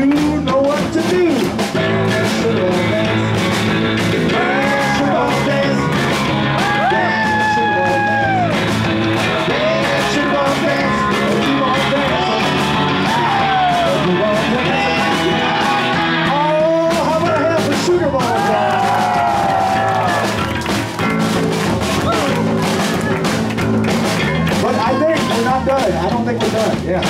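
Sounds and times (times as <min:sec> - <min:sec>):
voices singing and shouting: 0:00.0 - 0:21.0, 0:21.8 - 0:27.0
bass guitar: 0:00.0 - 0:27.0
drum kit steady beat: 0:00.0 - 0:27.0
electric guitars: 0:00.0 - 0:27.0
keyboard: 0:00.0 - 0:27.0
rock band playing: 0:00.0 - 0:27.0.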